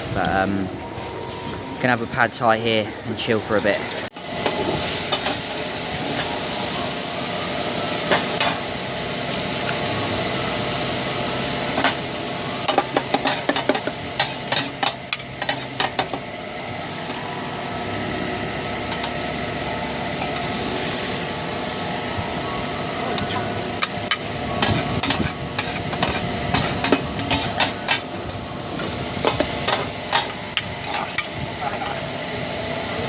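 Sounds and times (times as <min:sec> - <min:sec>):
food sizzling: 0:04.2 - 0:32.6.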